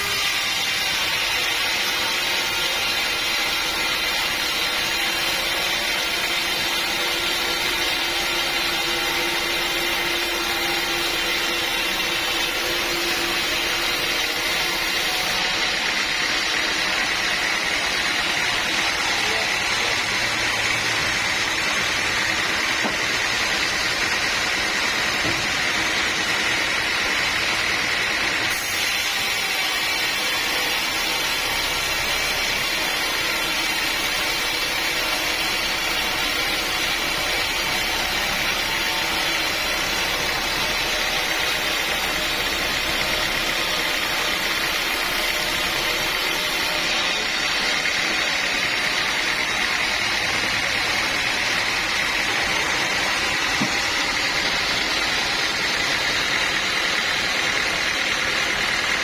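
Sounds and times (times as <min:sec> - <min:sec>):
sawmill saw whining: 0:00.0 - 0:59.0.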